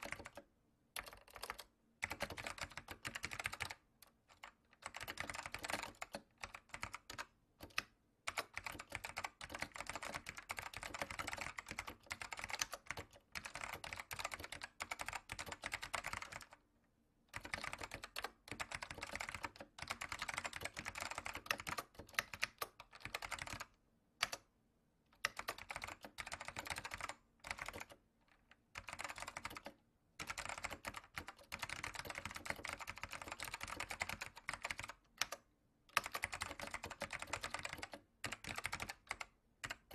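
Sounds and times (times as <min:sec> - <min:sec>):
fast typing on computer keyboard: 0:00.0 - 0:16.6, 0:17.3 - 0:24.4, 0:25.2 - 0:39.9.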